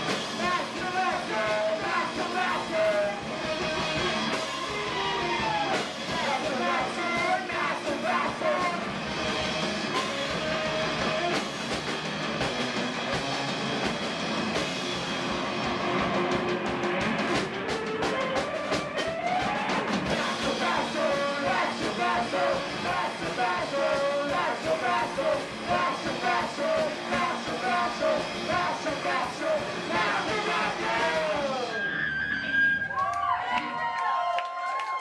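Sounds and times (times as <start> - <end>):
punk rock band playing live: 0.0 - 32.7.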